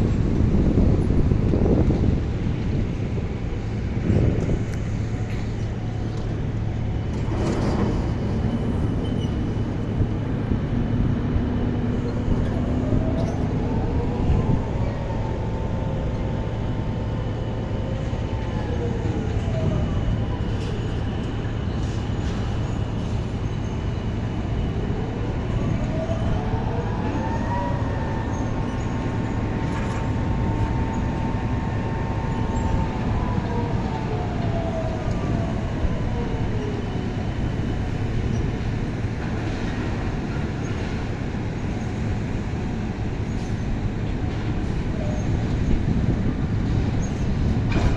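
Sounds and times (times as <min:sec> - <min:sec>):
heavy engine rumble: 0:00.0 - 0:47.9.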